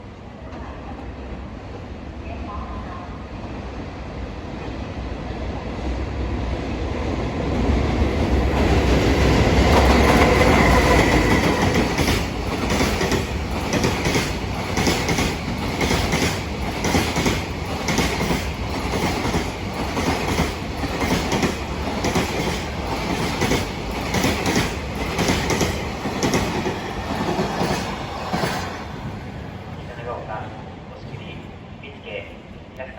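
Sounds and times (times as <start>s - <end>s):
freight train rumble: 0.0s - 32.9s.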